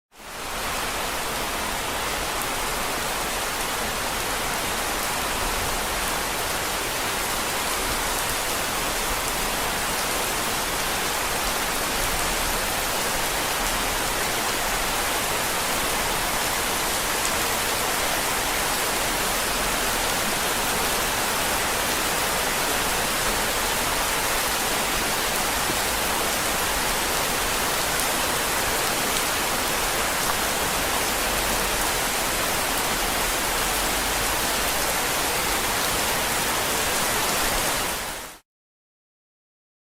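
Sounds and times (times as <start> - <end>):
steady rain: 0.2 - 38.4.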